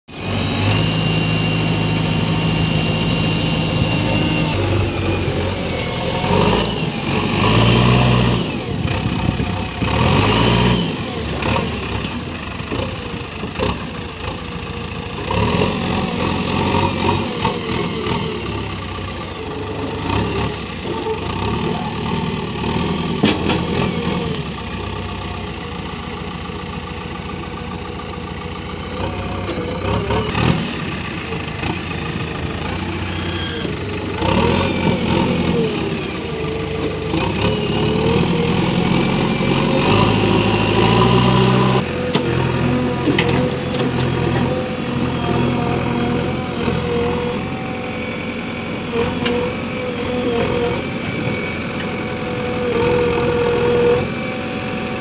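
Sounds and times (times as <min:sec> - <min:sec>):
diesel engine revving: 0:00.1 - 0:55.0.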